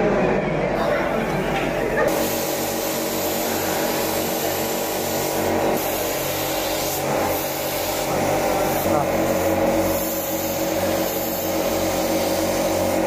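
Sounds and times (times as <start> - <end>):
air compressor humming: 0.8 - 13.0
paint spray gun hissing: 2.0 - 13.0.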